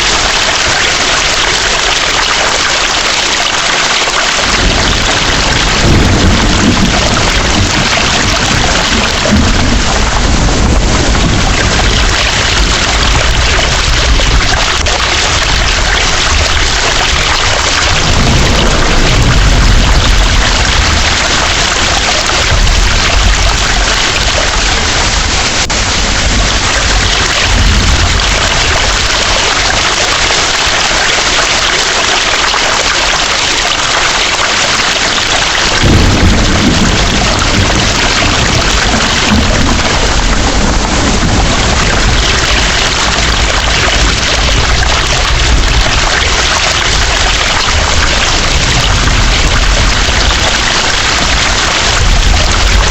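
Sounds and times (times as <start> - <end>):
heavy rain pouring: 0.0 - 52.9
low rolling thunder: 4.1 - 31.4, 34.4 - 52.9.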